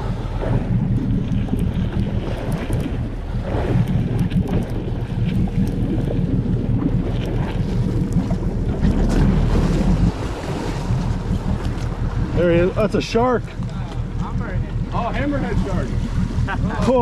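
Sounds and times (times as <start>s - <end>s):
boat engine running: 0.0s - 17.0s
water churning against hull: 0.0s - 17.0s
wind buffeting microphone: 0.0s - 17.0s.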